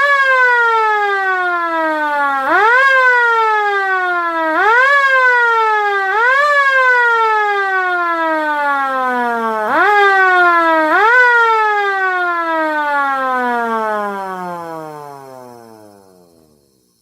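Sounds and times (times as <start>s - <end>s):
air raid siren winding down: 0.0s - 16.7s.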